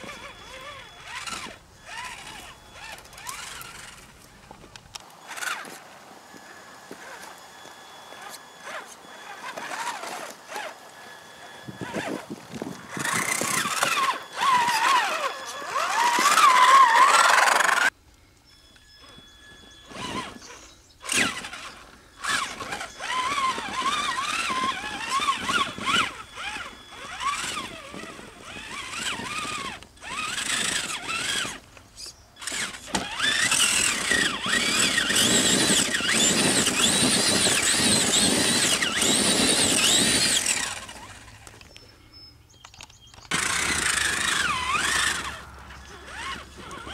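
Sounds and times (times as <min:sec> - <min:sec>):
electric motor and gears whining: 0:00.0 - 0:46.9.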